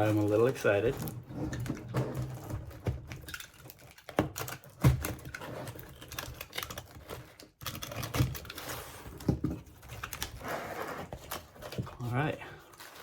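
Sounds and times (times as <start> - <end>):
hands opening a cardboard box: 0.0 - 13.0
packaging rustling: 0.0 - 13.0.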